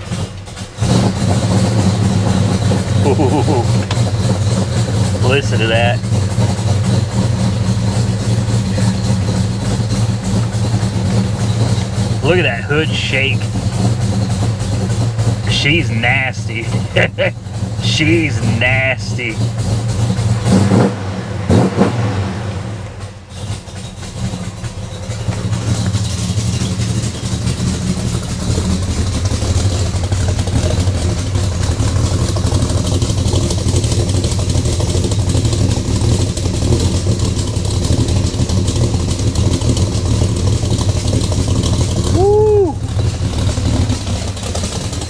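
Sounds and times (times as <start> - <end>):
car engine rough idle: 0.0 - 45.0.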